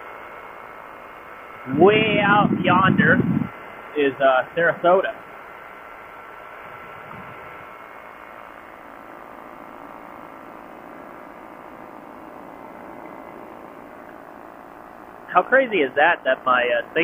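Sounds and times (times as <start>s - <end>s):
ultralight aircraft engine drone: 0.0s - 17.0s
wind: 0.0s - 17.0s.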